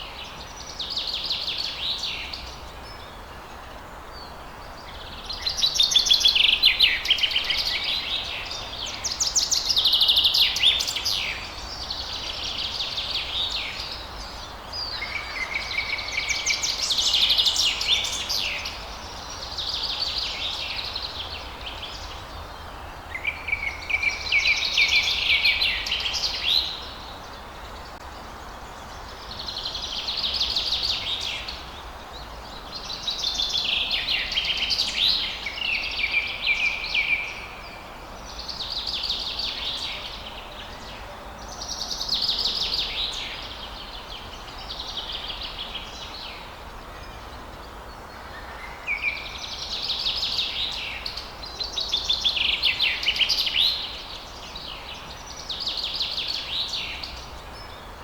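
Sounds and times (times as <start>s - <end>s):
low background noise: 0.0s - 58.0s
songbirds chirping and trilling: 0.0s - 58.0s.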